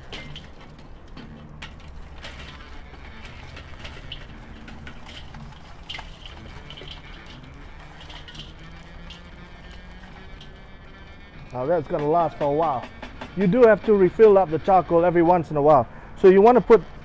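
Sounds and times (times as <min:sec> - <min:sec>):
charcoal clattering against metal: 0:00.0 - 0:17.0.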